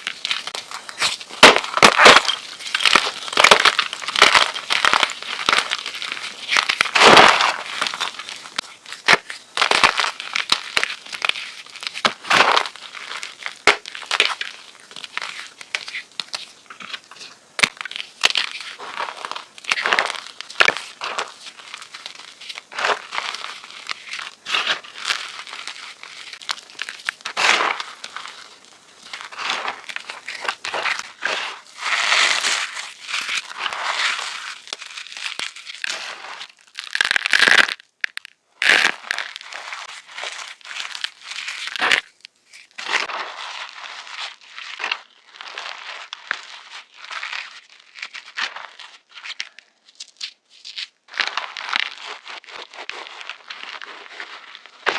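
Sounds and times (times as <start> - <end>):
chalk crunching and crumbling: 0.0 - 54.9.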